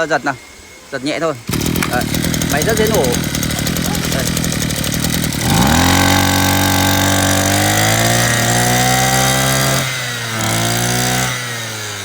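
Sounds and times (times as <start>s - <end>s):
brush cutter engine revving: 1.4s - 12.0s.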